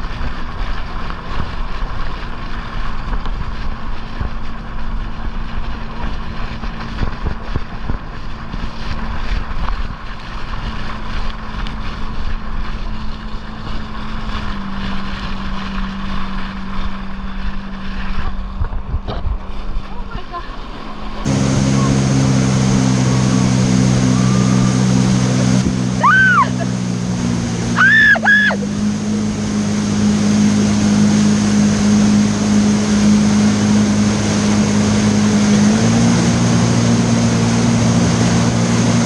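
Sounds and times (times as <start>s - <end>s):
jet ski engine droning: 0.0s - 39.0s
rushing water: 0.0s - 39.0s
wind buffeting microphone: 0.0s - 39.0s.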